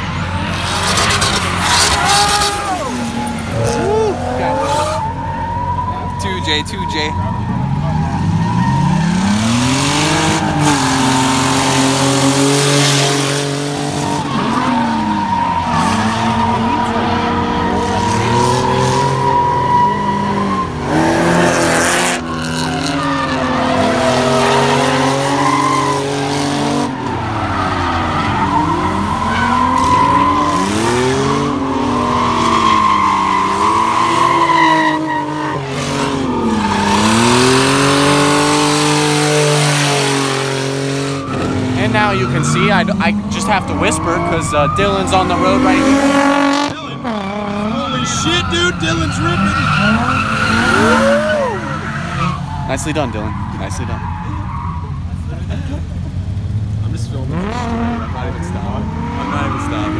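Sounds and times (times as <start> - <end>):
car engines revving: 0.0 - 59.9
tires squealing: 0.0 - 59.9.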